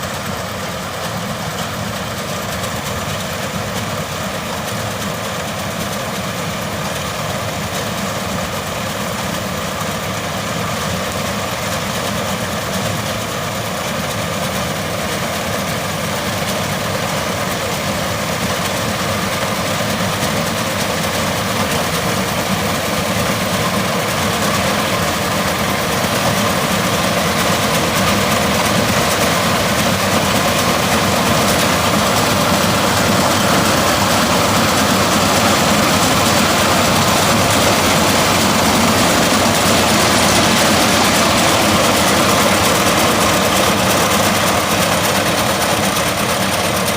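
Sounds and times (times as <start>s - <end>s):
combine harvester running: 0.0s - 46.9s.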